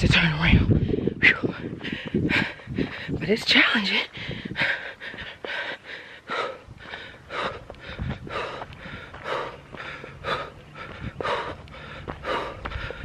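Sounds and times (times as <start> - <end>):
woman breathing hard: 0.8 - 3.2, 4.1 - 13.0.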